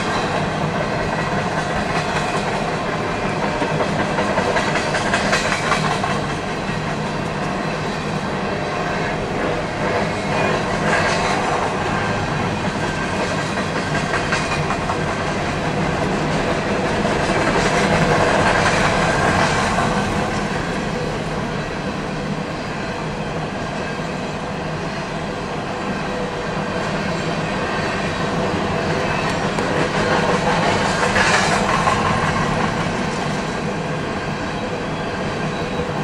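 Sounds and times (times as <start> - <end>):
freight train cars rolling past: 0.0 - 36.0.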